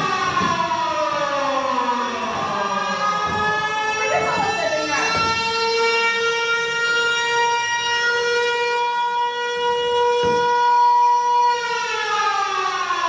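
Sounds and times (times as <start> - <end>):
air-raid siren winding down: 0.0 - 13.0.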